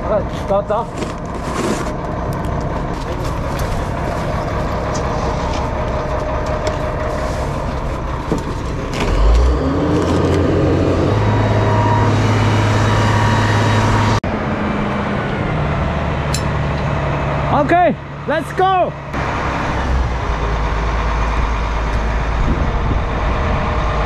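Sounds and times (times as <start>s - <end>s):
truck engine running: 0.0s - 24.0s.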